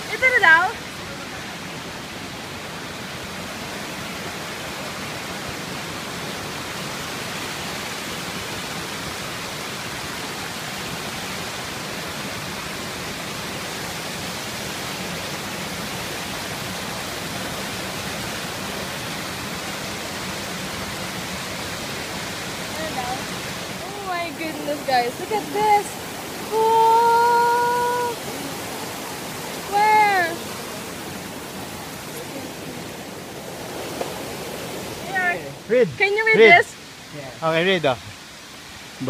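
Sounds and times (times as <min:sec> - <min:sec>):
mountain stream rushing: 0:00.0 - 0:39.0.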